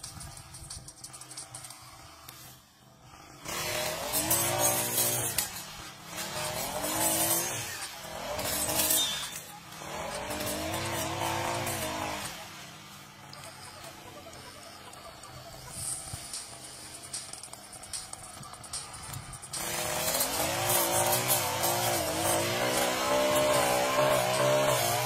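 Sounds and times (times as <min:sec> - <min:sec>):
brush cutter engine revving: 0:01.1 - 0:25.0.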